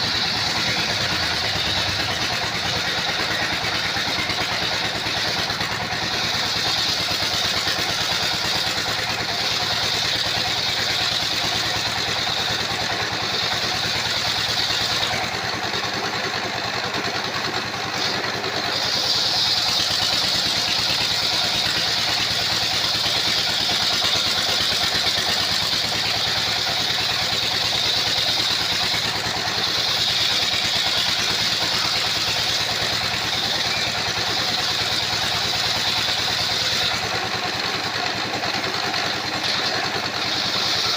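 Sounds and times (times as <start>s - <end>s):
circular saw cutting timber: 0.0s - 40.9s.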